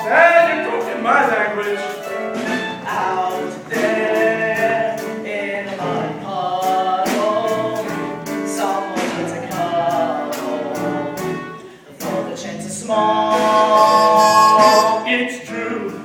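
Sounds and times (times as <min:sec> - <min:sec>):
instrumental accompaniment: 0:00.0 - 0:15.2
voices singing together: 0:00.0 - 0:16.0.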